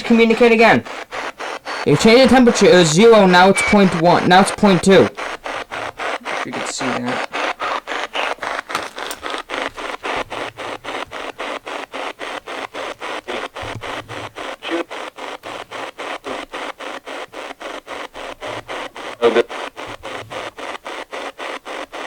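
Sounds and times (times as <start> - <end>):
radio static bursts: 0.0 - 22.0.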